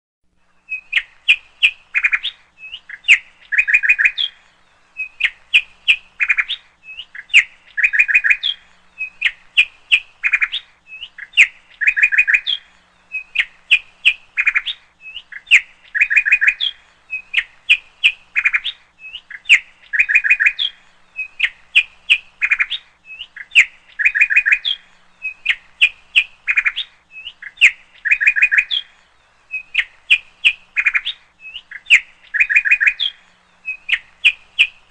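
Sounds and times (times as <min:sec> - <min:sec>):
bird chirps and trills: 0:00.4 - 0:34.9.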